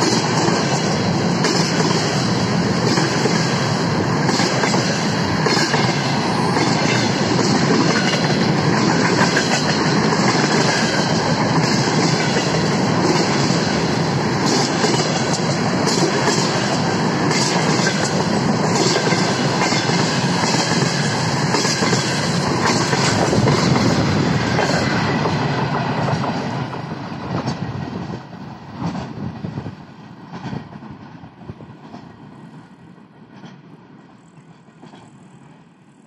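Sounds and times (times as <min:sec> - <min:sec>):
train wheels clacking on rails: 0:00.0 - 0:32.6, 0:33.2 - 0:35.5.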